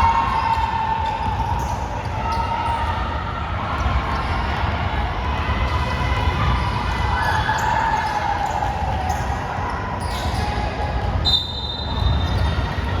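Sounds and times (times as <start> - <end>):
echoing hall noise: 0.0 - 13.0.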